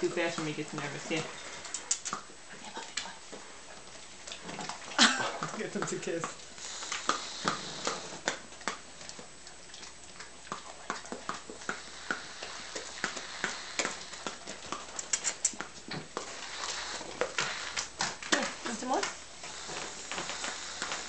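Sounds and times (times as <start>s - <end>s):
dogs licking and smacking: 0.0s - 21.0s.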